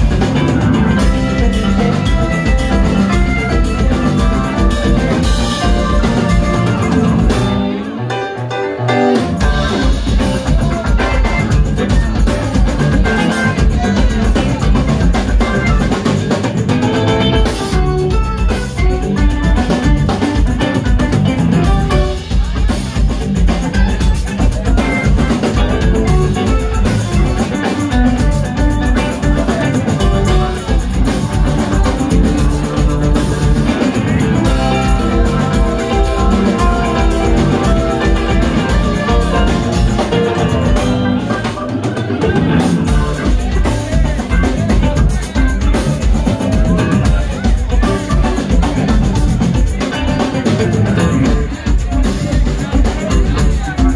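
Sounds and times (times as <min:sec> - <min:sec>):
funk band playing: 0:00.0 - 0:53.9.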